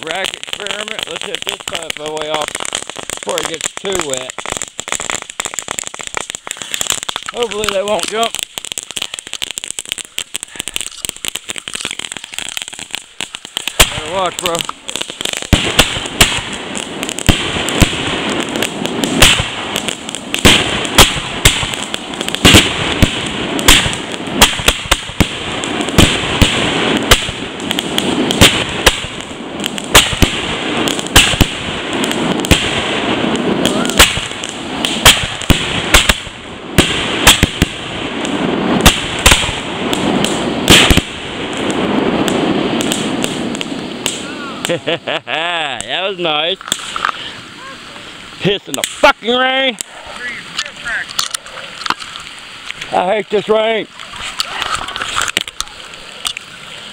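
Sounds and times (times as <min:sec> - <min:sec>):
fireworks crackling hiss: 0:00.0 - 0:56.9
fireworks sharp bangs: 0:00.0 - 0:56.9.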